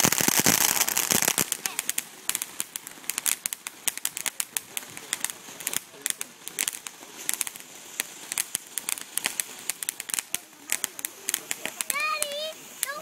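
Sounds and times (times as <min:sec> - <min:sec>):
fireworks crackling: 0:00.0 - 0:13.0
fireworks hissing: 0:00.0 - 0:13.0.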